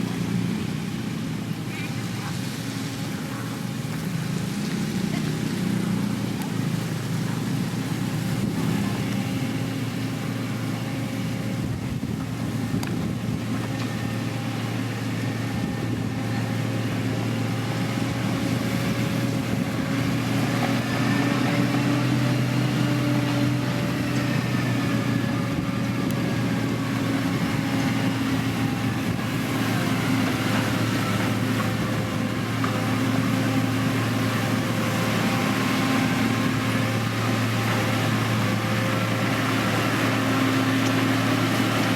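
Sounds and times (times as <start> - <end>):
diesel engine of heavy machinery: 0.0 - 41.9.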